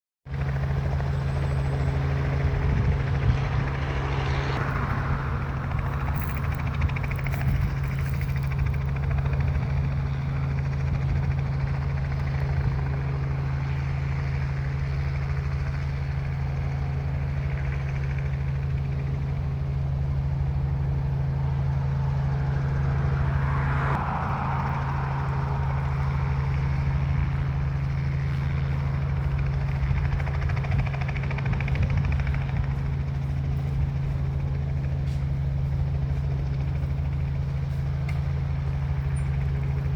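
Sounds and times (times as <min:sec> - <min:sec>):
engine humming with fine pulsing: 0:00.3 - 0:39.9.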